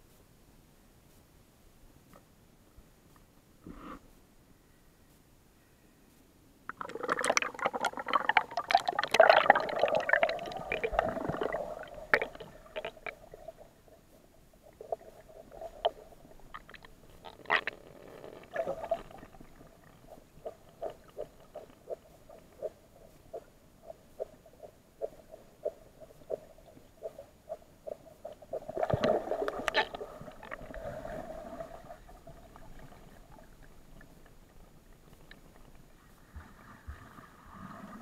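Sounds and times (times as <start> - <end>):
water splashing and bubbling: 6.7 - 38.0.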